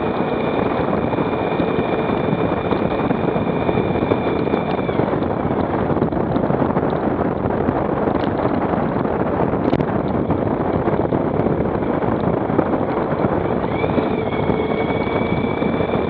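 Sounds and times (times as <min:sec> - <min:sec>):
motorcycle riding: 0:00.0 - 0:16.0
steady high whine: 0:00.0 - 0:16.0
wind noise on microphone: 0:00.0 - 0:16.0.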